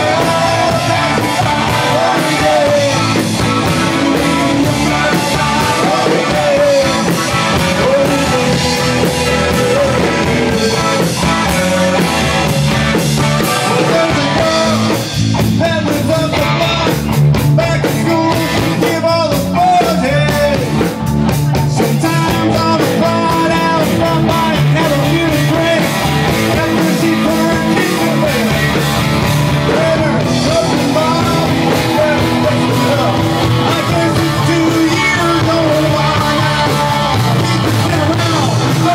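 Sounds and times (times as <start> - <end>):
person singing: 0.0 - 12.5, 13.2 - 38.9
live rock band playing: 0.0 - 38.9.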